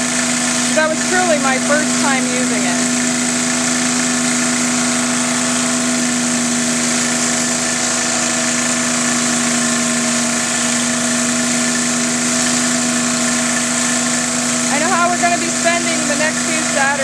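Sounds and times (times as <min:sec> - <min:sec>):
pressure washer engine running: 0:00.0 - 0:17.0
water spraying onto concrete: 0:00.0 - 0:17.0.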